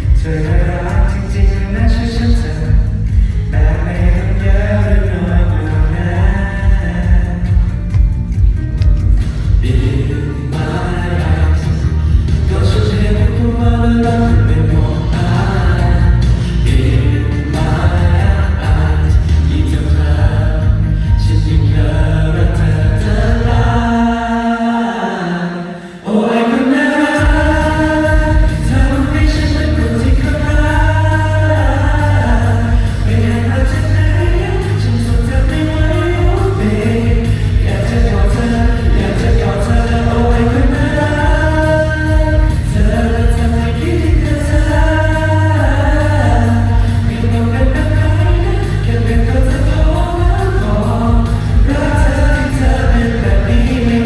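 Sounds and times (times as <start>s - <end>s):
strong steady bass: 0.0s - 24.2s, 27.2s - 54.0s
pop backing track: 0.0s - 54.0s
person singing long held notes: 9.5s - 54.0s.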